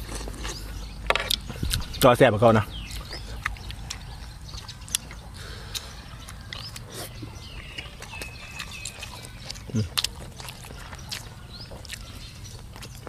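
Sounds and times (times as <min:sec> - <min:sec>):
chewing and lip smacks: 0:00.0 - 0:02.1, 0:02.7 - 0:13.0
faint bird chirps: 0:00.4 - 0:13.0.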